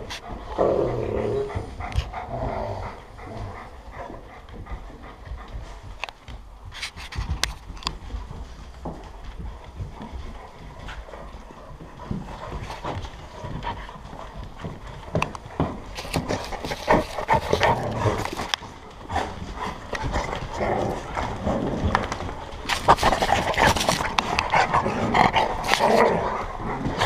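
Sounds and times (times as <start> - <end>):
dogs panting: 0.0 - 27.0
dog claws clicking on floor: 3.2 - 27.0.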